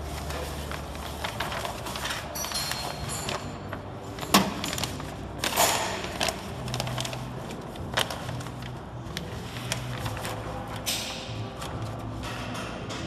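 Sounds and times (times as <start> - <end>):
plastic film crinkling: 0.0 - 12.3.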